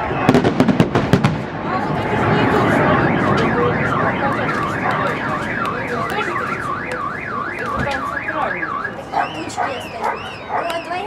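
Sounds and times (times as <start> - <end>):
car alarm warbling siren: 0.0 - 0.4, 1.9 - 11.0.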